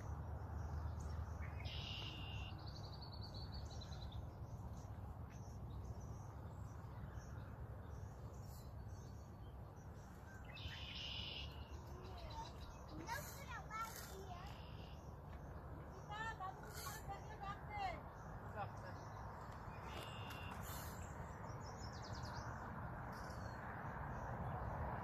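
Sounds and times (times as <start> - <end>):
songbird singing buzzy phrases: 0.0 - 22.8.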